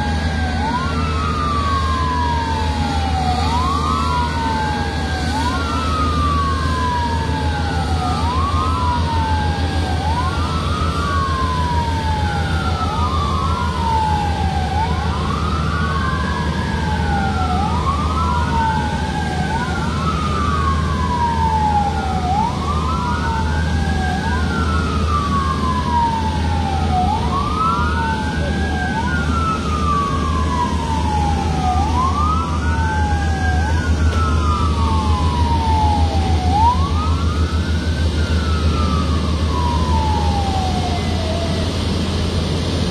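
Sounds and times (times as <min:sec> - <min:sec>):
fire truck sirens wailing: 0:00.0 - 0:42.9
low rumble of engines: 0:00.0 - 0:42.9.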